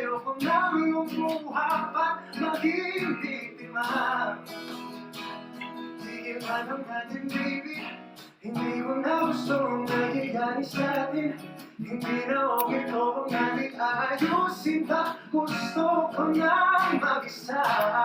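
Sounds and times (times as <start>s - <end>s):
man singing: 0.0s - 4.9s, 5.8s - 18.0s
strummed acoustic guitar: 0.0s - 18.0s.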